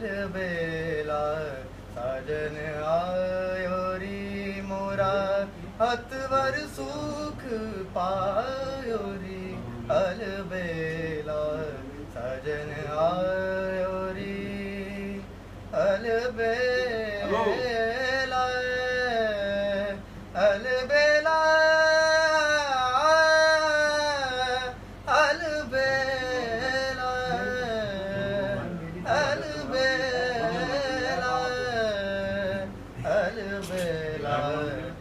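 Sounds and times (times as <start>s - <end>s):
young man singing: 0.0s - 35.0s.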